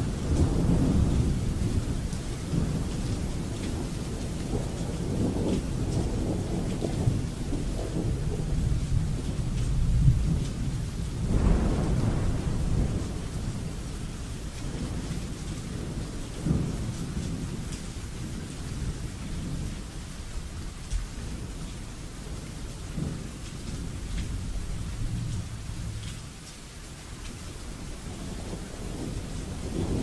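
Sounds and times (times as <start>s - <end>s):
rolling thunder: 0.0s - 19.8s, 20.6s - 26.1s, 27.8s - 30.0s
steady rain: 0.0s - 30.0s.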